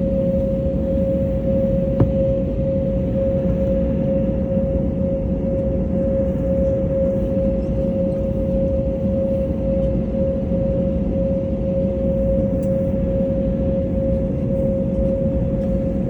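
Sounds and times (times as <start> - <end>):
machinery drone with steady hum: 0.0 - 16.0.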